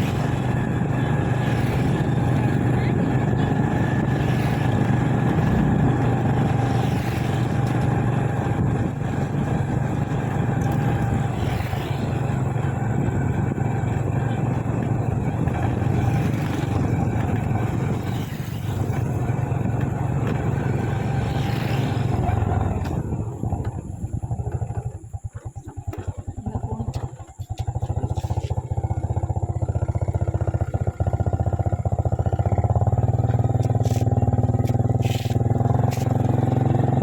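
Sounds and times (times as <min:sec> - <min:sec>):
motorcycle engine humming: 0:00.0 - 0:37.0.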